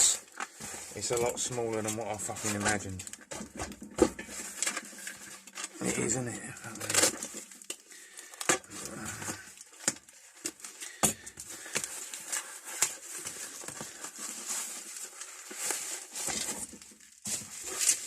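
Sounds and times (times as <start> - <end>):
wrapping rustling and crinkling: 0.0 - 18.0.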